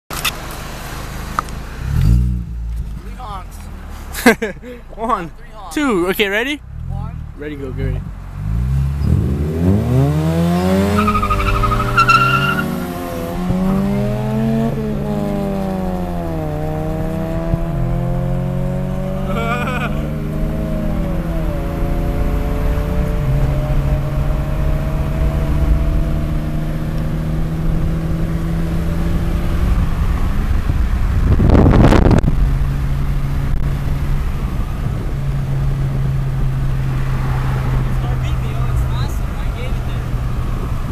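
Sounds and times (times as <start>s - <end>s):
car engine accelerating: 0.1s - 40.9s.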